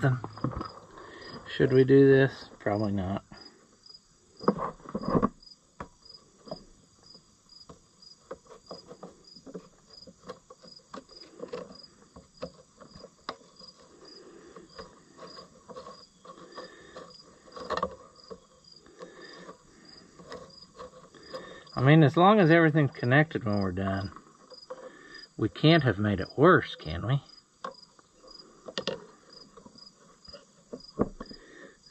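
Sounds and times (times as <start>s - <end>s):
cricket chirping: 0.0s - 31.9s.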